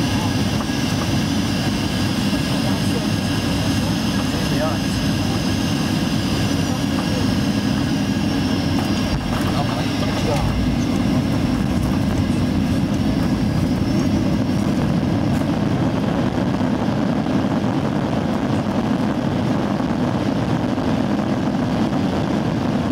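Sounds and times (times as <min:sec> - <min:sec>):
aircraft cabin rumble: 0:00.0 - 0:22.9.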